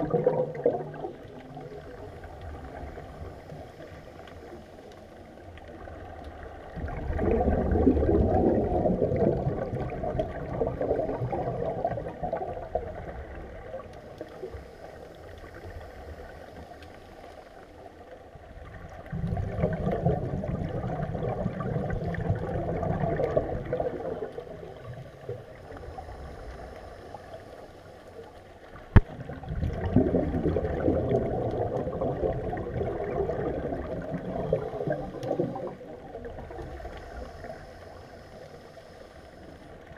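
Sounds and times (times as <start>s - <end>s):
underwater exhaust bubbles: 0.0s - 39.9s.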